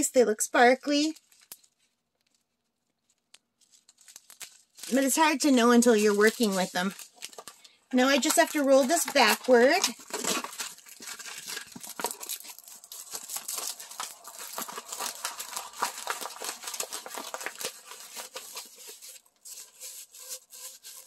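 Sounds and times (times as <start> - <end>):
plastic film crinkling: 0.6 - 21.0.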